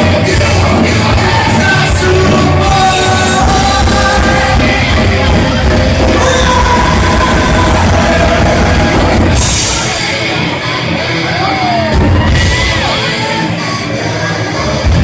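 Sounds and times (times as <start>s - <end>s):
live rock band playing: 0.0s - 15.0s
person singing: 0.0s - 15.0s.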